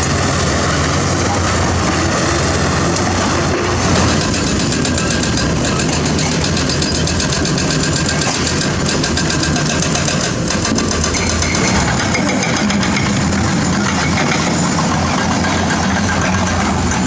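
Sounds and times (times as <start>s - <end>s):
diesel engine clattering: 0.0s - 17.0s.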